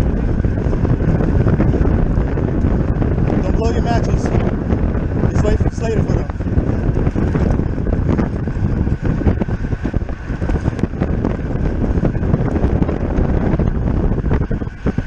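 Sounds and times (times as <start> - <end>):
faint steady whine: 0.0 - 15.0
wind rushing over microphone: 0.0 - 15.0.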